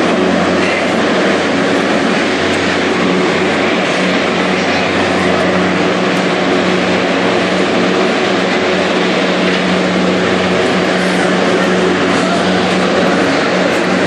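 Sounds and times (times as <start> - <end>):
rushing noise: 0.0 - 14.0
steady machine hum: 0.0 - 14.0.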